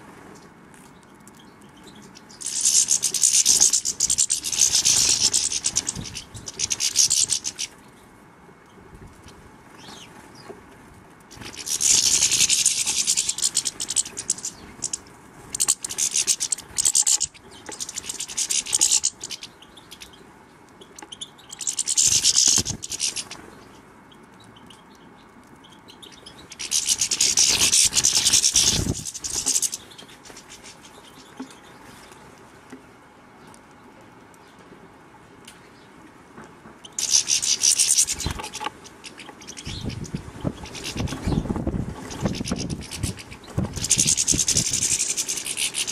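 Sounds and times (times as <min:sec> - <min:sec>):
birds fluttering: 0:00.0 - 0:34.8, 0:36.5 - 0:45.9
birds twittering: 0:00.8 - 0:10.7, 0:11.3 - 0:32.5, 0:36.7 - 0:45.9.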